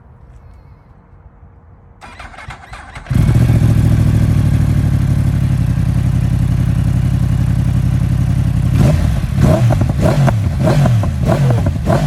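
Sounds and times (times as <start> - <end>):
motorcycle engine idling: 2.0 - 11.9.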